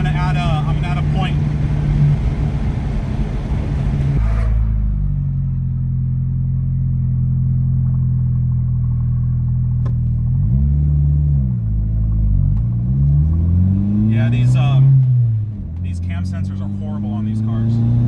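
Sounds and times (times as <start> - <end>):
car engine running and revving: 0.0 - 18.0.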